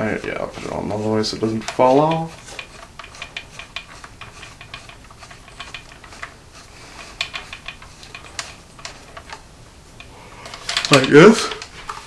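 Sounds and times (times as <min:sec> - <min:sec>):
suppressor screwing clicks and scrapes: 0:00.0 - 0:12.0.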